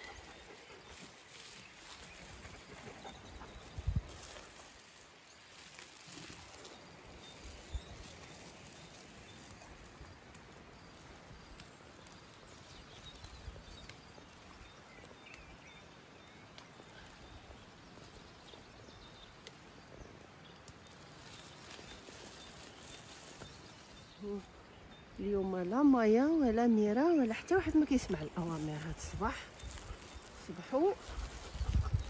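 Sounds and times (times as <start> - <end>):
rustling of leafy plants: 0.0 - 32.0.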